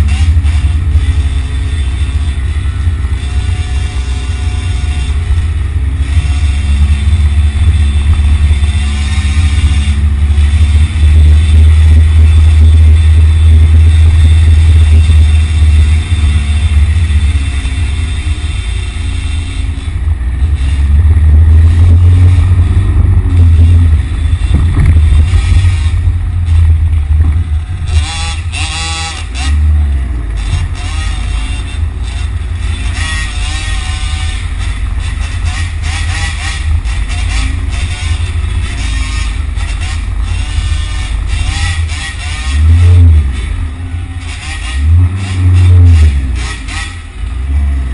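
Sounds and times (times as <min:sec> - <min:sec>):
street traffic rumble: 0:00.0 - 0:47.9
vehicle engines passing: 0:00.0 - 0:47.9.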